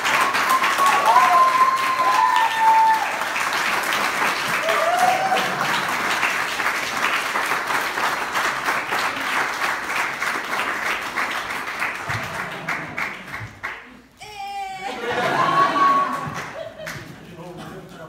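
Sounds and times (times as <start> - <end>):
audience applauding: 0.0 - 13.9, 15.0 - 17.2.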